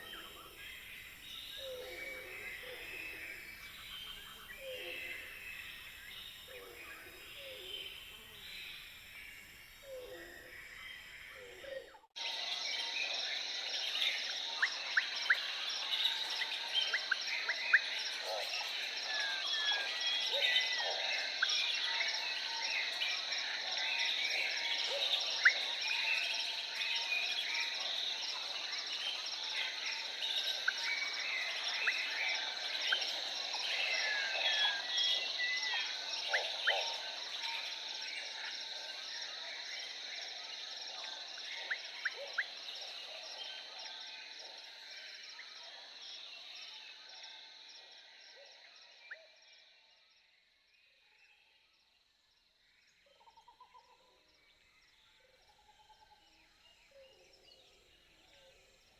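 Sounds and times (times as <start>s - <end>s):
high insect chorus: 0.0s - 58.9s.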